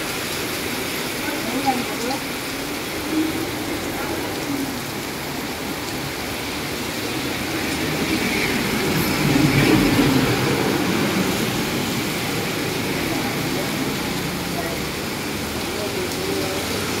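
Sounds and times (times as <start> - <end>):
heavy rain falling: 0.0 - 17.0
bus driving past on wet road: 0.2 - 17.0.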